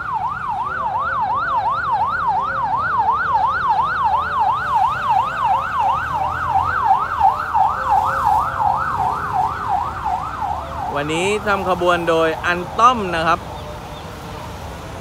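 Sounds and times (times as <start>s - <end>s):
level-crossing warning alarm: 0.0s - 14.1s
low rumble of road traffic: 0.0s - 15.0s.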